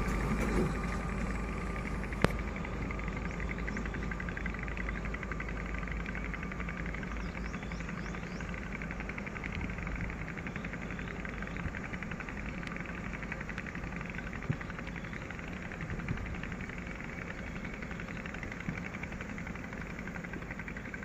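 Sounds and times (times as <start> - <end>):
distant locomotive engine rumble: 0.0 - 21.0.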